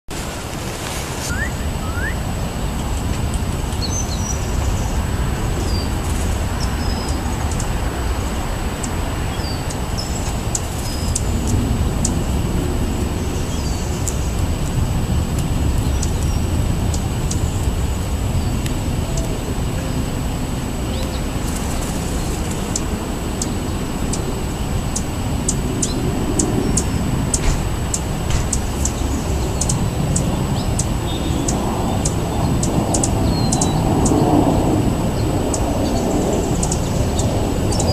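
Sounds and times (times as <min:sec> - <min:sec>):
birds pecking on pavement: 0:00.1 - 0:37.9
steady low rumble: 0:00.1 - 0:37.9
songbirds chirping: 0:00.2 - 0:37.9.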